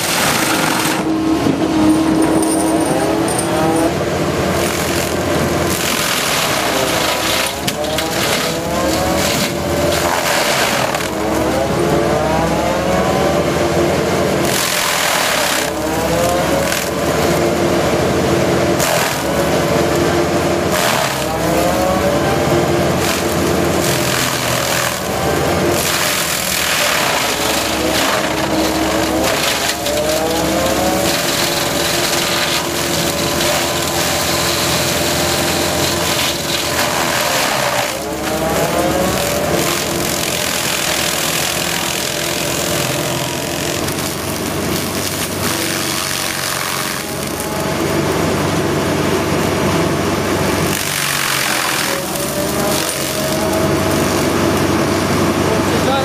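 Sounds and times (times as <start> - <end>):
excavator engine: 0.0 - 56.0
stump cutter grinding: 0.0 - 56.0.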